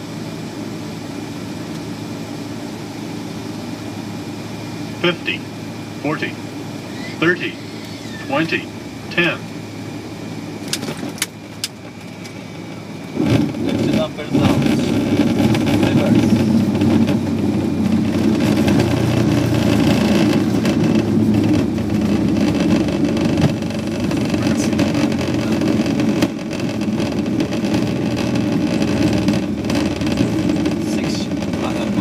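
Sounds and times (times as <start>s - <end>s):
jet engine and runway rumble: 0.0s - 32.0s.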